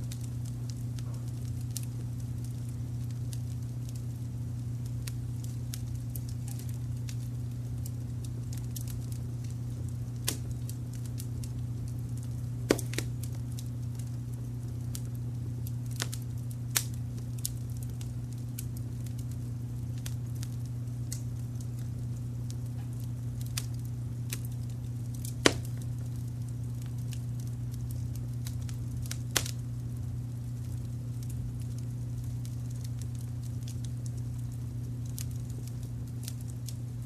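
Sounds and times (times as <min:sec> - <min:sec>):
low rumble of brown noise: 0:00.0 - 0:37.0
wood fire crackling and popping: 0:00.0 - 0:37.0.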